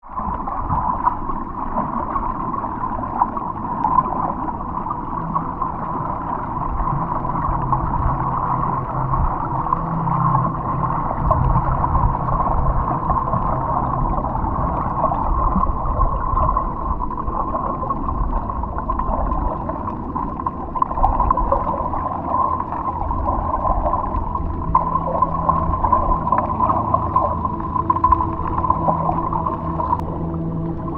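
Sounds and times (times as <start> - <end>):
gurgling and bubbling: 0.0 - 30.9
underwater low rumble: 0.0 - 30.9
faint steady tones: 0.1 - 30.9.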